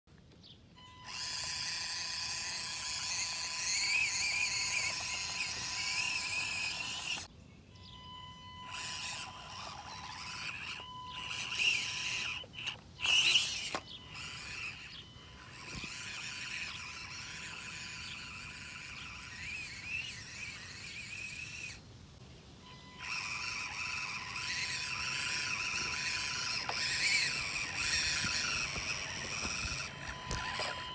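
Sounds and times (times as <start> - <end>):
toy car electric motor whine: 0.8 - 7.3, 7.9 - 21.8, 22.6 - 30.9.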